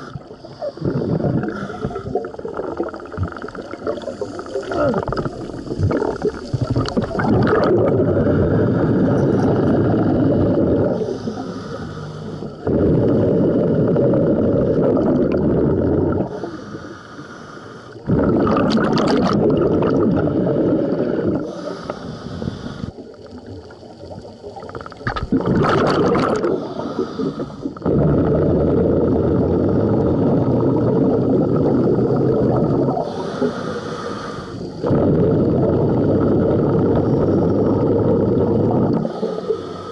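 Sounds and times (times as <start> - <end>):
regulator hissing inhalation: 0.0 - 7.1, 7.7 - 23.2, 25.8 - 39.9
underwater exhaled bubbles rumbling: 0.0 - 16.6, 18.0 - 39.9.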